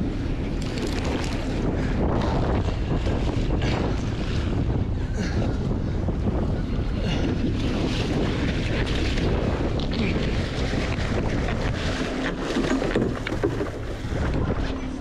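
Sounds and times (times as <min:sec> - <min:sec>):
boat and water noise: 0:00.0 - 0:15.0
wind buffeting microphone: 0:00.0 - 0:15.0.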